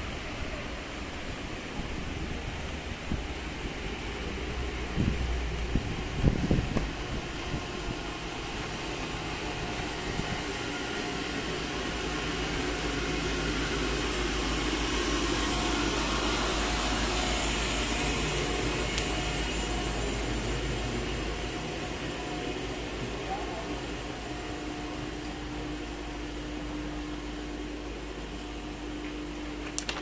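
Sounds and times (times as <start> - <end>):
mechanical running hum: 0.0 - 30.0.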